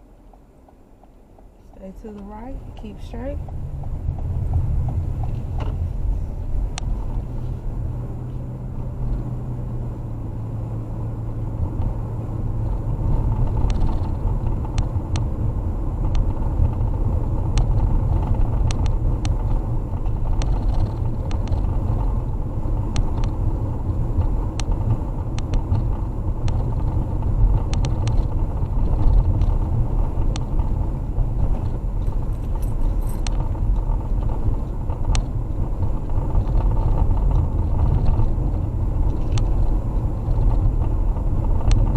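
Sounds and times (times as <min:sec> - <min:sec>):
car cabin road rumble: 0:00.0 - 0:41.9.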